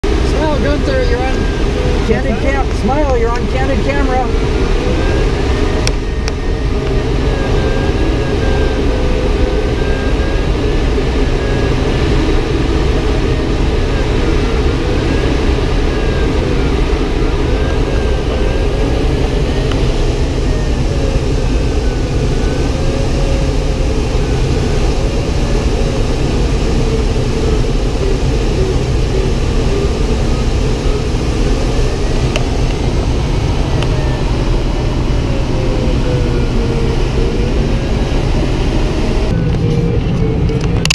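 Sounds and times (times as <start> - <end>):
thin wavering tone: 0.0 - 40.9.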